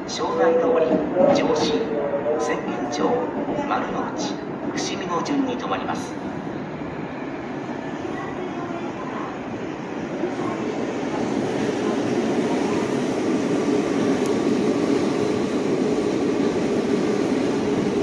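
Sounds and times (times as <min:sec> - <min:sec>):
subway train running on track: 0:00.0 - 0:18.0.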